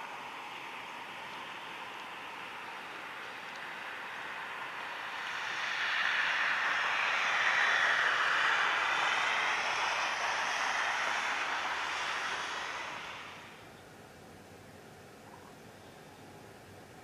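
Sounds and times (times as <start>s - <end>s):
jet engine rushing: 0.0s - 13.7s.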